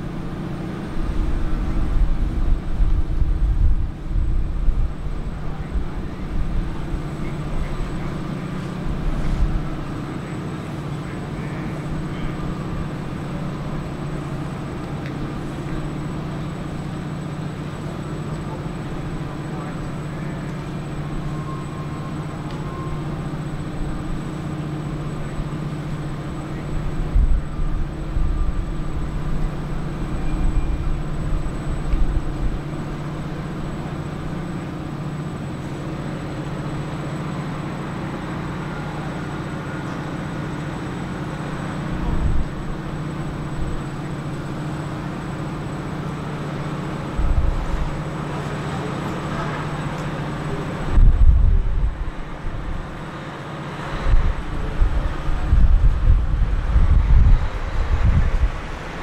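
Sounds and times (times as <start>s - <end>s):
low buffeting rumbles: 0.0s - 59.0s
low machinery hum: 0.0s - 59.0s.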